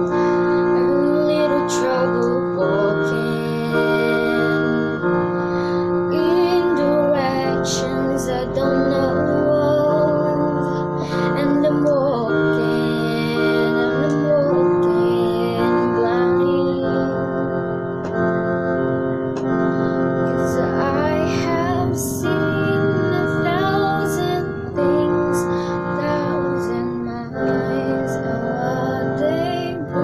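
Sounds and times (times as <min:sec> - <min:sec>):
girl singing: 0:00.0 - 0:18.2, 0:19.4 - 0:30.0
electronic keyboard piano chords: 0:00.0 - 0:30.0.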